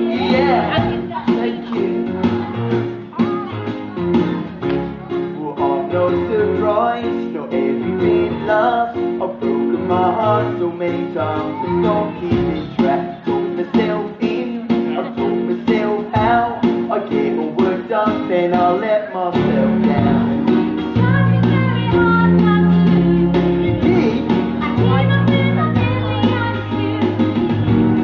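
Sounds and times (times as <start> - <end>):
person singing: 0.0 - 4.1, 4.9 - 27.9
strummed beat: 0.0 - 6.8, 9.2 - 28.0.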